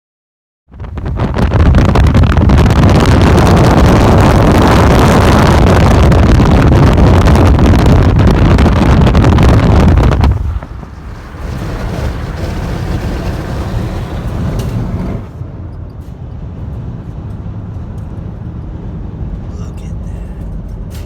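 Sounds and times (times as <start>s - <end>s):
wind buffeting microphone: 0.7s - 19.4s.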